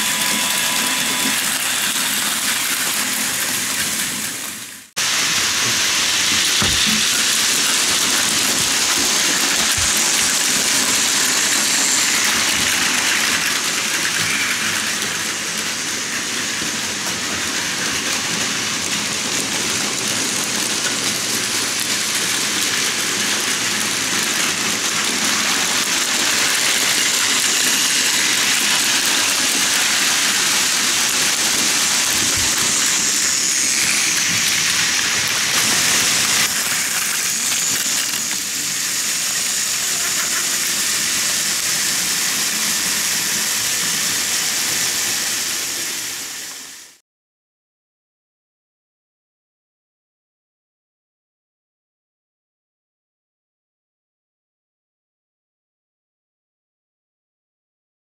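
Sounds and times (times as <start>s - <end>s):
toy trains whirring and rattling: 0.0s - 47.0s.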